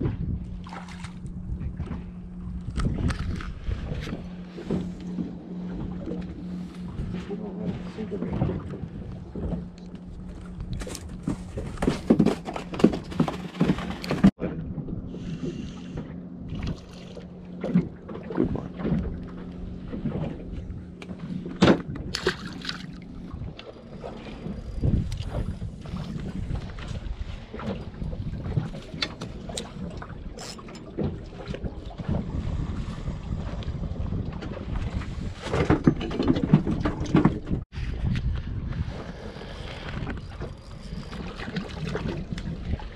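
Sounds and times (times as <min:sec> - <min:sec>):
wind on microphone: 0:00.0 - 0:12.3, 0:17.7 - 0:42.9
water slapping against boat hull: 0:00.0 - 0:14.4, 0:15.9 - 0:39.0
steady low hum: 0:00.0 - 0:42.9.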